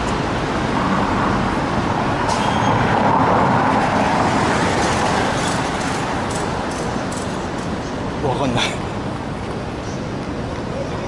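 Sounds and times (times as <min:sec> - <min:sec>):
passing vehicles: 0:00.0 - 0:11.0.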